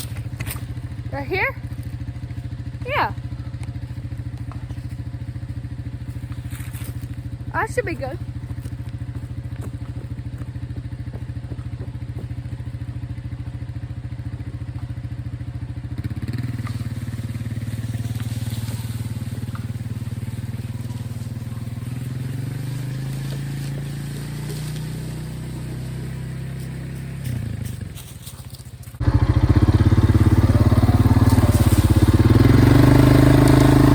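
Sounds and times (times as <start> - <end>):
atv engine revving: 0.0 - 33.9.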